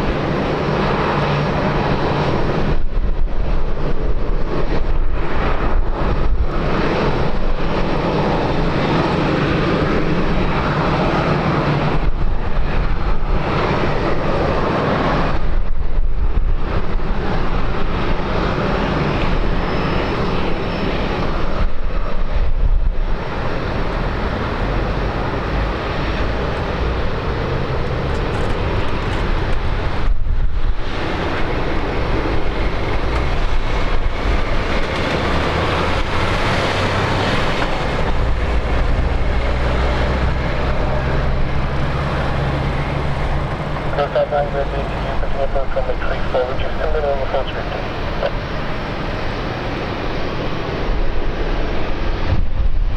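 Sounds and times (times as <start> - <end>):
aircraft engine rushing: 0.0 - 52.9.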